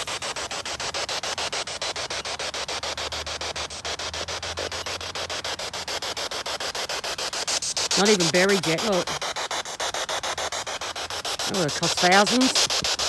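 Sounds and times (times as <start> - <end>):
pulsing static hiss: 0.0 - 13.0.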